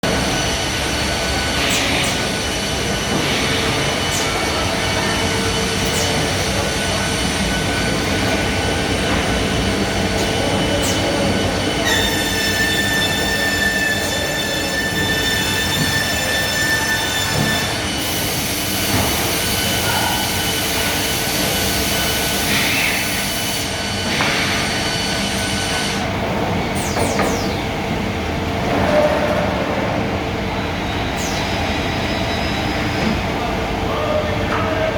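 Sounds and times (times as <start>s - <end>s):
drilling machine whine: 0.0s - 28.6s
rough machine noise: 0.0s - 34.9s.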